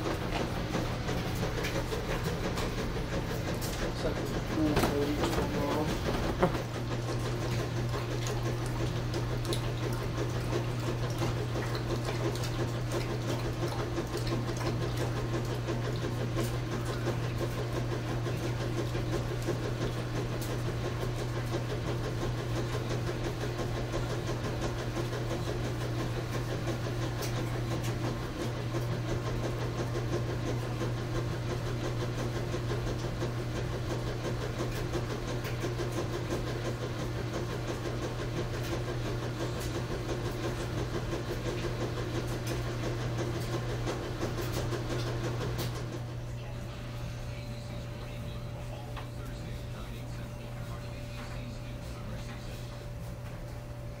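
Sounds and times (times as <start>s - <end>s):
machine low hum: 0.0s - 54.0s.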